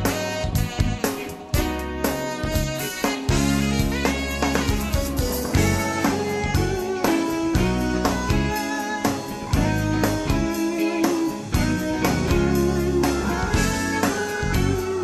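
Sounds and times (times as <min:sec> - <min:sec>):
guitar lead over a beat: 0:00.0 - 0:15.0.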